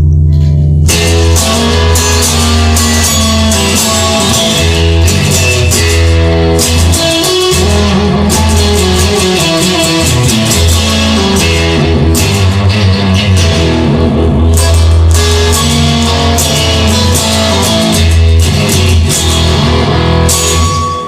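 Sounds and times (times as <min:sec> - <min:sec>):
bass guitar: 0:00.0 - 0:21.0
electric guitar: 0:00.0 - 0:21.0.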